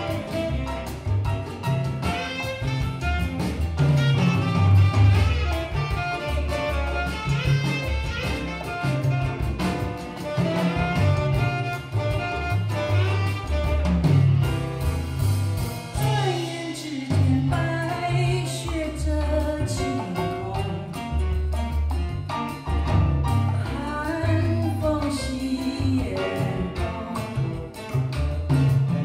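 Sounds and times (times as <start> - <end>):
music through loudspeakers: 0.0 - 29.0.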